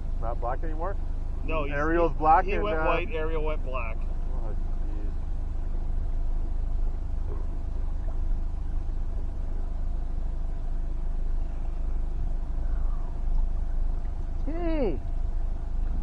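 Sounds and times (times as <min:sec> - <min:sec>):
faint steady hum: 0:00.0 - 0:16.0
outboard motor rumbling: 0:00.0 - 0:16.0.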